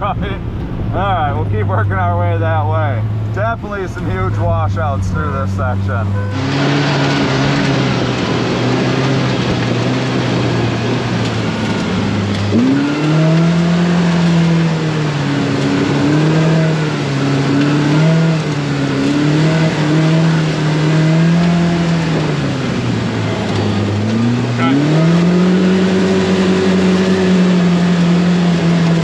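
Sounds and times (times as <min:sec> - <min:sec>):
engine revving at low speed: 0:00.0 - 0:29.0.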